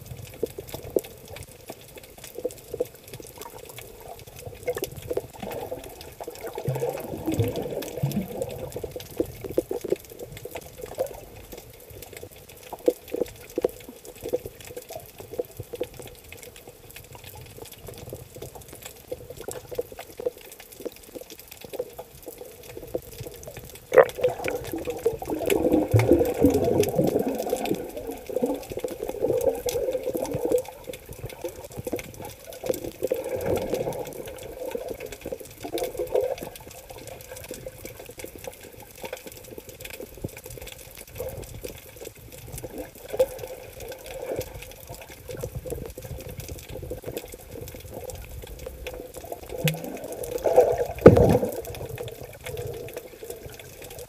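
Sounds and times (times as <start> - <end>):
underwater clicks crackling: 0.0 - 54.0
underwater water noise: 0.0 - 54.0.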